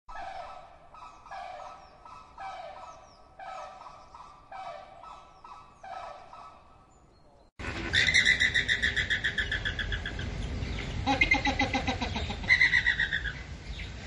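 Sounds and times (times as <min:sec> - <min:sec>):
flamingos honking: 0:00.1 - 0:06.8, 0:07.6 - 0:13.6.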